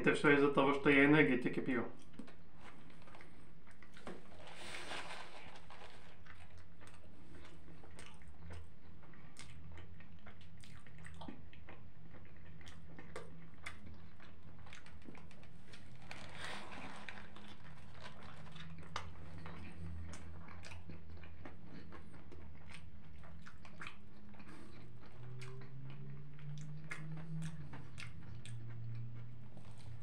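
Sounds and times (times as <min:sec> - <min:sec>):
wet smacking chewing: 0:02.0 - 0:04.7, 0:05.7 - 0:30.0.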